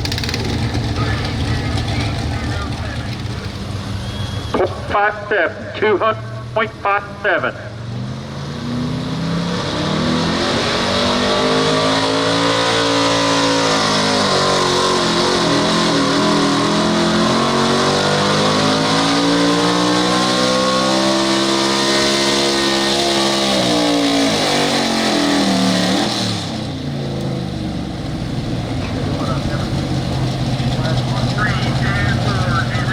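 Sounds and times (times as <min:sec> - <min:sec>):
truck engine at full throttle: 0:00.0 - 0:32.9.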